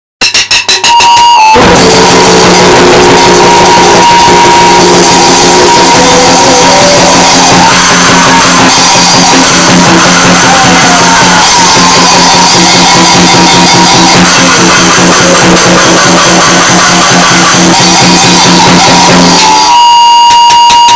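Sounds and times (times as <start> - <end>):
wall of distorted noise: 0.2 - 20.9
droning tones: 1.0 - 20.9.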